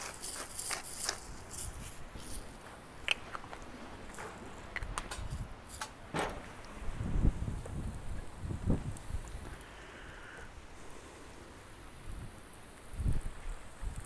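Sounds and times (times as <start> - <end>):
hot fat crackling and popping: 0.0 - 14.0.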